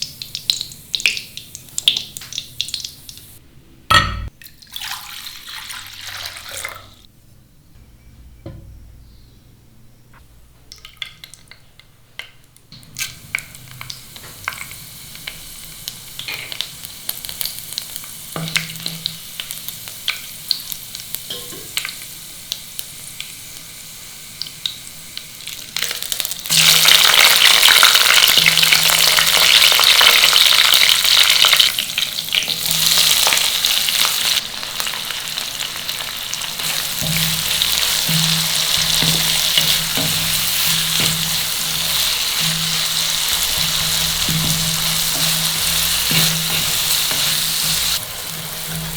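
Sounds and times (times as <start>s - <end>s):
food sizzling in hot oil: 0.0s - 3.4s, 12.8s - 48.9s.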